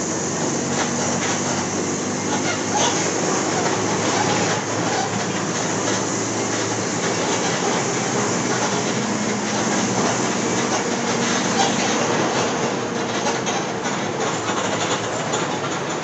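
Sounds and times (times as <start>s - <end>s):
bus body rattle and road noise: 0.0s - 16.0s
bus diesel engine running: 0.0s - 16.0s.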